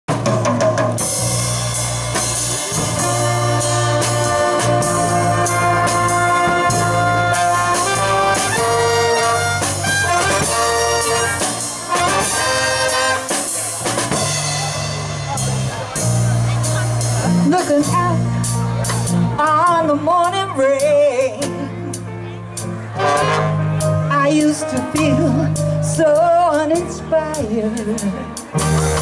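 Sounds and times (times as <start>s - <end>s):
jazz big band playing: 0.1s - 29.0s.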